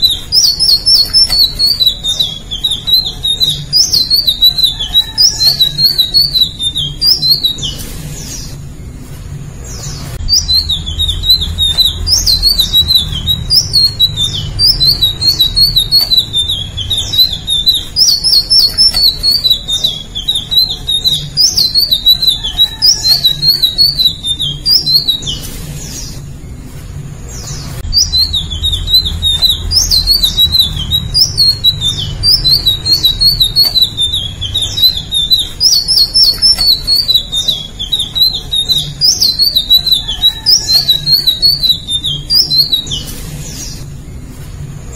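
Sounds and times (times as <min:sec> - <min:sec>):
bird singing high warbling: 0:00.0 - 0:08.9, 0:09.6 - 0:44.9.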